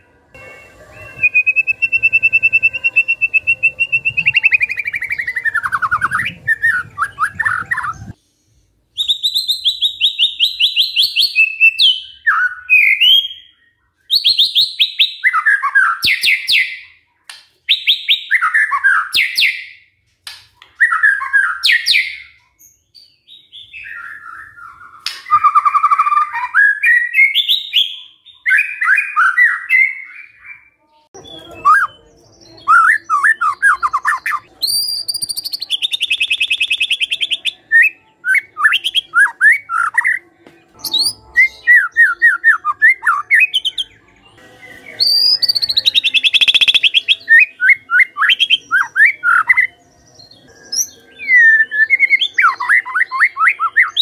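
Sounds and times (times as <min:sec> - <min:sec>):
bird singing: 0:00.0 - 0:17.0, 0:20.6 - 0:54.0.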